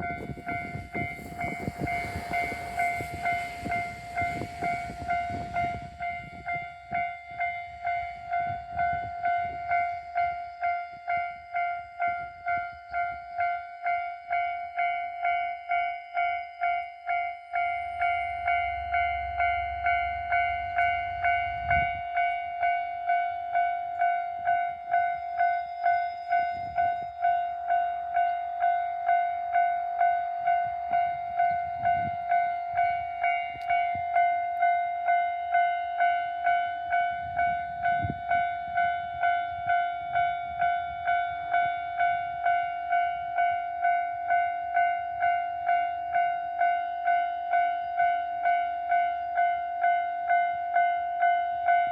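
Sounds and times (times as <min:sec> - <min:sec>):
level crossing warning bell: 0:00.0 - 0:51.9.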